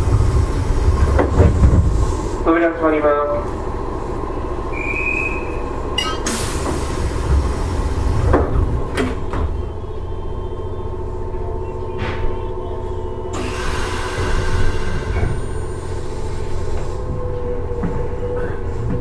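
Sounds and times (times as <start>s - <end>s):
electric train rumbling: 0.0s - 19.0s
train equipment hum: 0.0s - 19.0s.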